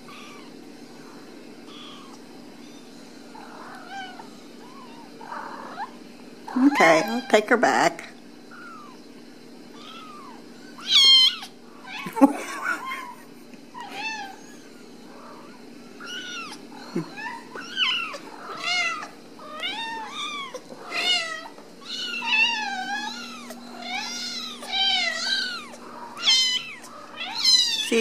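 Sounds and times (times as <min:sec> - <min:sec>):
kittens mewing: 0:00.0 - 0:07.6, 0:08.4 - 0:09.1, 0:09.7 - 0:28.0.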